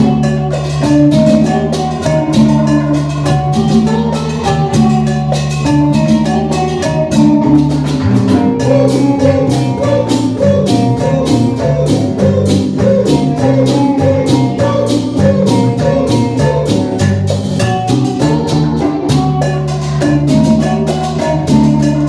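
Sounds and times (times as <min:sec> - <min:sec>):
band melody: 0:00.0 - 0:22.0
bass line: 0:00.0 - 0:22.0
steady percussion beat: 0:00.0 - 0:22.0.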